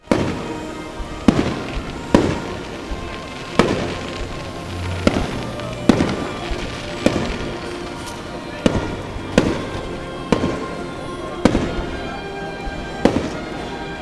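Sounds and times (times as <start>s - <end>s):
fireworks bangs: 0.0s - 14.0s
music playing: 0.0s - 14.0s.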